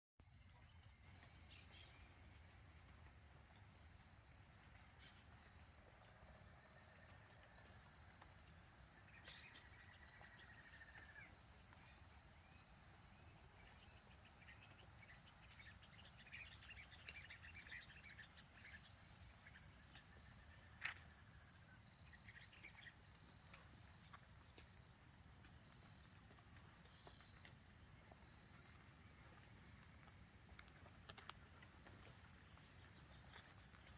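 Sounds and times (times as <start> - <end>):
insects trilling: 0.3 - 33.9.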